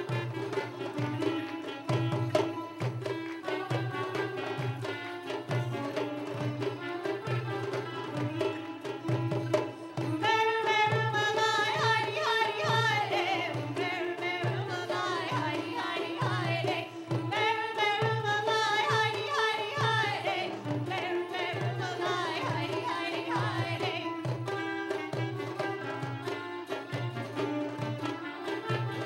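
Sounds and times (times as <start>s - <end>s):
frame drums and hand drums: 0.0s - 29.0s.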